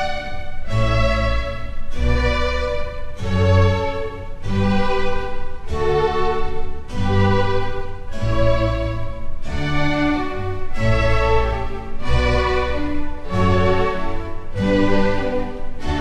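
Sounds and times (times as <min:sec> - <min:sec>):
slow bowed string music: 0:00.0 - 0:16.0.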